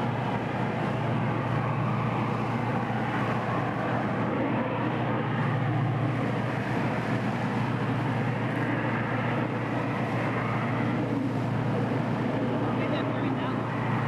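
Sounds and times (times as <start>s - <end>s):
low engine rumble: 0.0s - 14.0s
rushing water: 0.0s - 14.0s
rushing wind: 0.0s - 14.0s.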